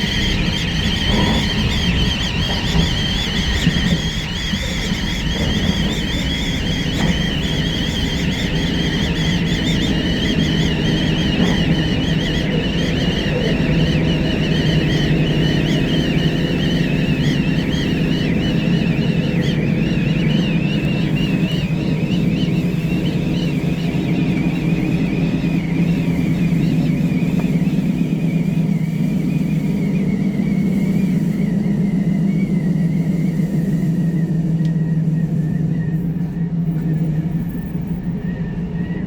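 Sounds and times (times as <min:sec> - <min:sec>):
high wavering squeal: 0:00.0 - 0:39.0
train wheels and wind rumbling: 0:00.0 - 0:39.0.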